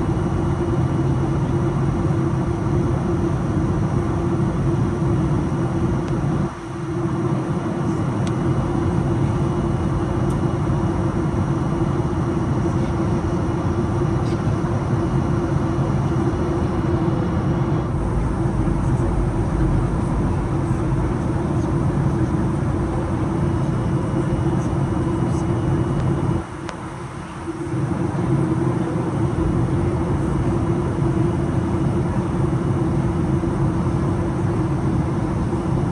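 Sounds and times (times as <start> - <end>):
airflow rushing in plane cabin: 0.0 - 35.9
constant mid-pitched hum: 0.0 - 35.9
jet engines droning: 0.0 - 35.9.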